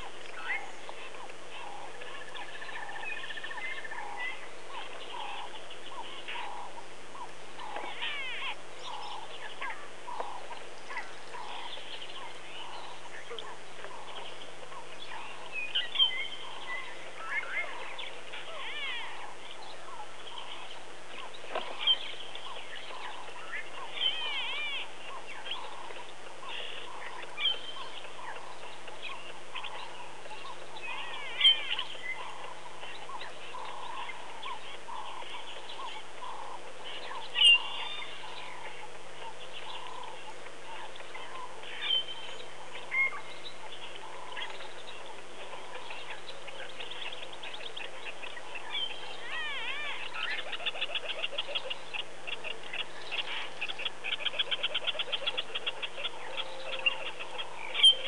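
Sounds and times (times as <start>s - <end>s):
birds calling: 0.0s - 58.0s.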